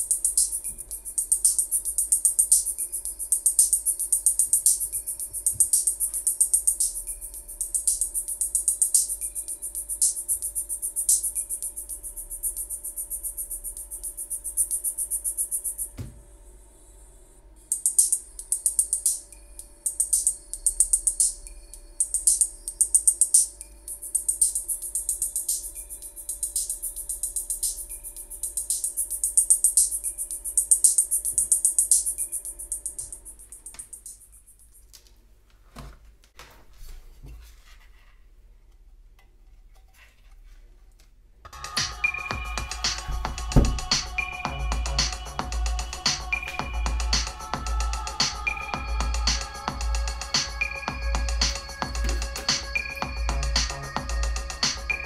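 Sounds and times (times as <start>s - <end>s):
thin tinny music with drum beat: 0.0s - 16.3s, 17.7s - 34.5s, 41.5s - 55.0s.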